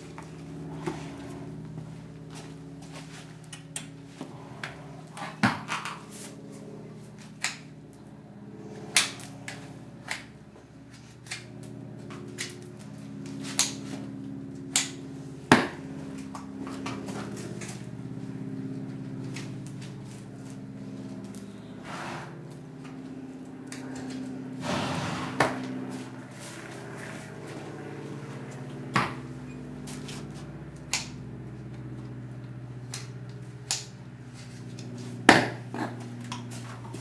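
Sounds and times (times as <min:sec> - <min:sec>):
horse hooves clacking on concrete: 0:00.0 - 0:37.0
steady low hum: 0:00.0 - 0:37.0.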